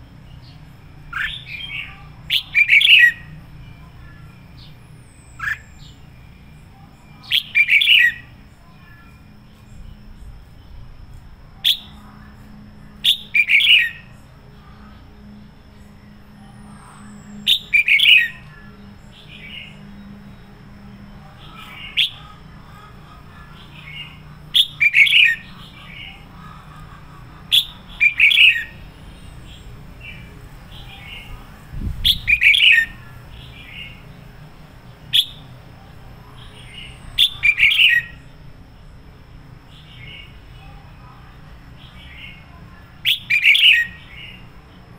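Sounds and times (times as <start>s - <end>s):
bird singing warbled song: 0.0s - 10.9s, 11.5s - 39.0s, 39.6s - 44.9s.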